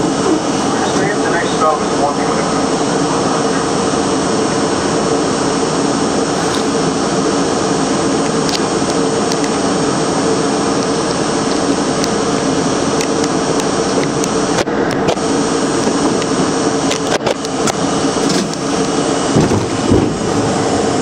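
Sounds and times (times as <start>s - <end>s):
constant hum: 0.0s - 21.0s
subway car machinery drone: 0.0s - 21.0s.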